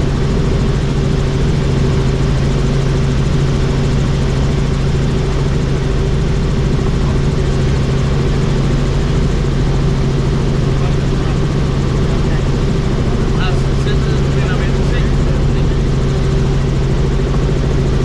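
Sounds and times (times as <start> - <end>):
helicopter rotor and engine noise: 0.0 - 18.0.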